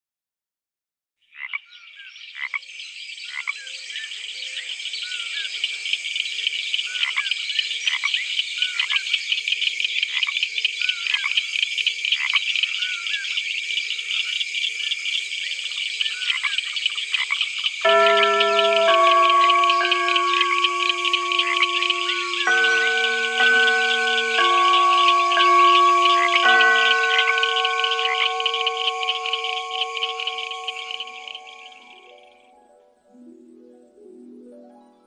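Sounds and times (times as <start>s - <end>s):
frogs trilling: 3.2s - 32.4s.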